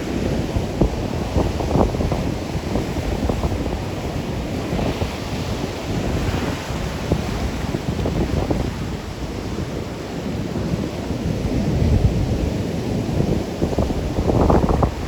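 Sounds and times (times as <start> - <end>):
storm surf crashing on beach: 0.0 - 15.0
wind buffeting microphone: 0.0 - 15.0.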